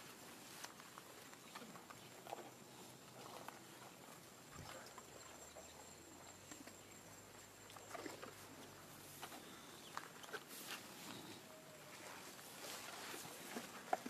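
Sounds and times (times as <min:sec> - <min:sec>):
grass rustling and crackling: 0:00.0 - 0:04.7, 0:06.6 - 0:14.0.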